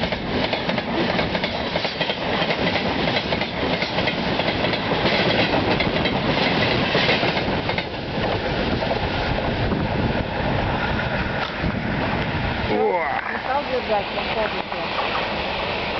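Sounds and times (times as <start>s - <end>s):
freight train rumbling: 0.0s - 15.9s.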